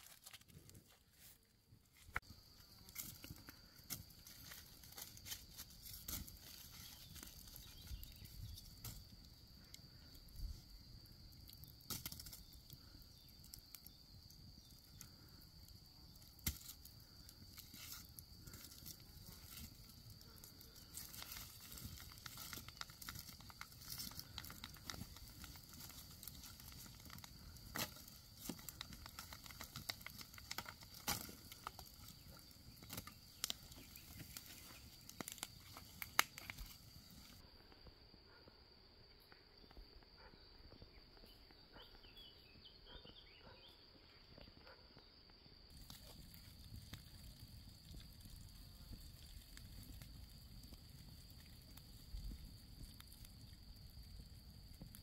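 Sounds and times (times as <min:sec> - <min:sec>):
campfire crackling and popping: 0:01.9 - 0:37.4, 0:45.7 - 0:55.0.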